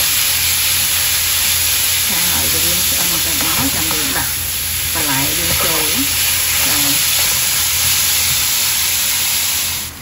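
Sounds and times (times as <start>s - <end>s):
meat sizzling in a wok: 0.0s - 10.0s
spatula stirring in a wok: 0.6s - 9.1s.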